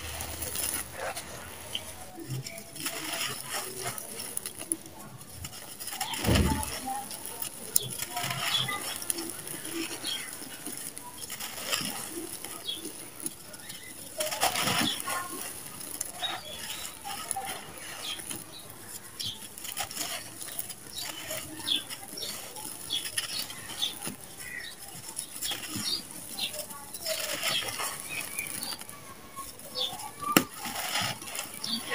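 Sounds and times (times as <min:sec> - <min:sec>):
sand cement crumbling: 0:00.0 - 0:31.9.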